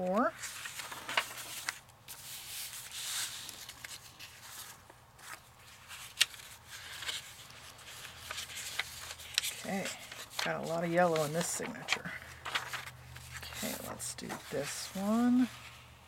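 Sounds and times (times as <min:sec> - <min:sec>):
paper rustling and sliding: 0:00.2 - 0:16.0.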